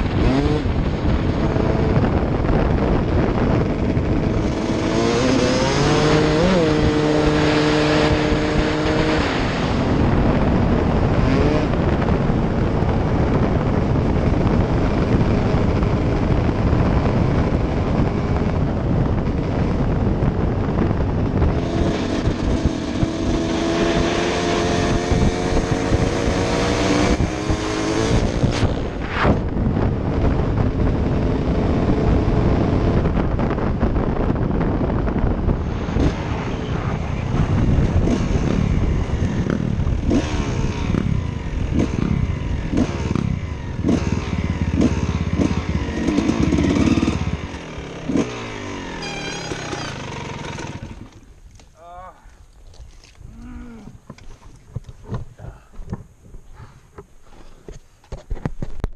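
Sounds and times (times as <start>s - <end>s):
dirt bike engine: 0.0s - 51.9s
wind rush on microphone: 0.0s - 58.9s.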